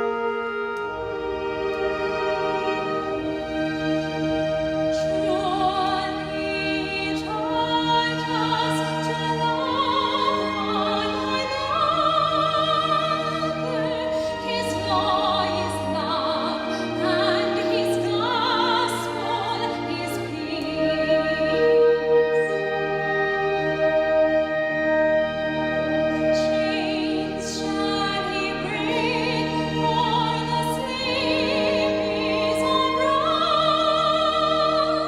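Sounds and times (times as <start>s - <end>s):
operatic singing: 0.0s - 35.0s
orchestral accompaniment: 0.0s - 35.0s.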